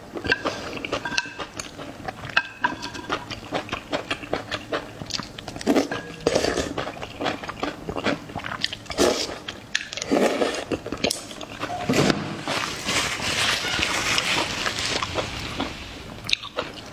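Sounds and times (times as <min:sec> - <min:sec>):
person chewing food: 0:00.0 - 0:11.8, 0:13.6 - 0:16.9.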